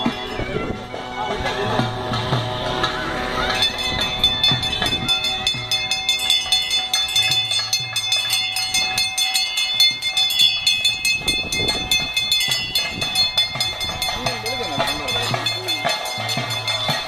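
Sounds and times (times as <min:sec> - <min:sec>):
fast drums and cymbals: 0:00.0 - 0:17.0
high pipes holding long notes: 0:00.0 - 0:17.0.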